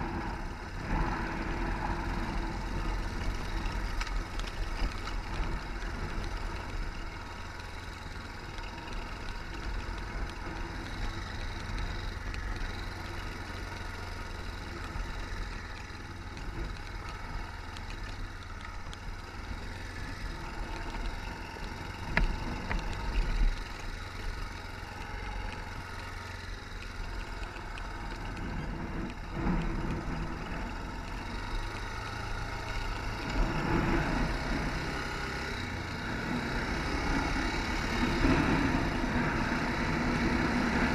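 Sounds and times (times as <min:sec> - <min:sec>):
engine running at low revs: 0:00.0 - 0:40.9.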